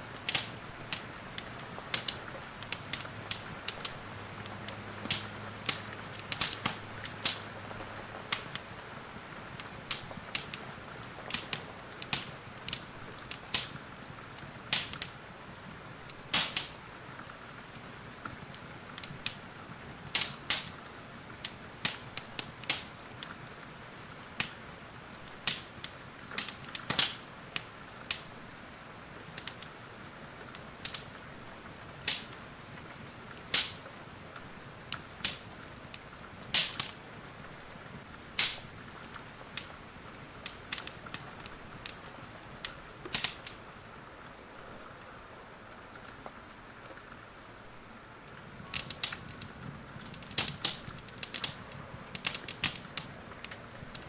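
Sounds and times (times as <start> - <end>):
rain hissing: 0.0 - 54.0
wood fire crackling: 0.0 - 54.0.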